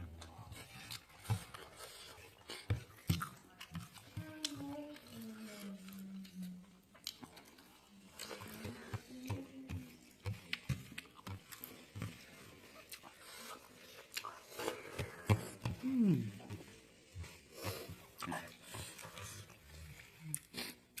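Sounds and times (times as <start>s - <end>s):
person chewing with wet mouth clicks: 0.0s - 4.7s, 5.9s - 16.8s, 17.6s - 21.0s.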